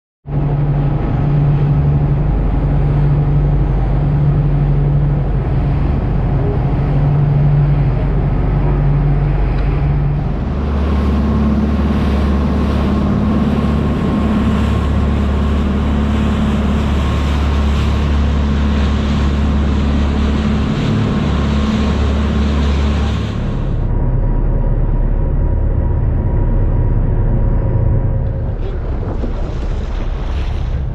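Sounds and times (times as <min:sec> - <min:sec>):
boat engine droning: 0:00.2 - 0:30.9.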